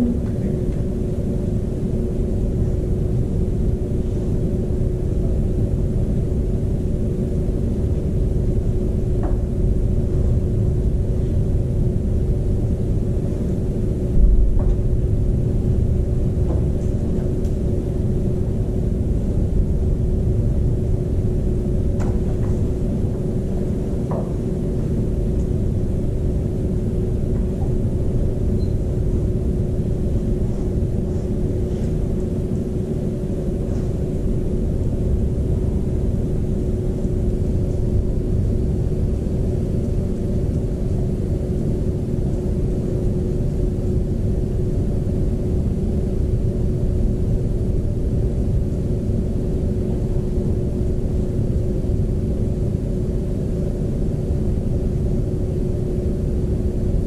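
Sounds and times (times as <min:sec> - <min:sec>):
room rumble with hum: 0:00.0 - 0:57.0.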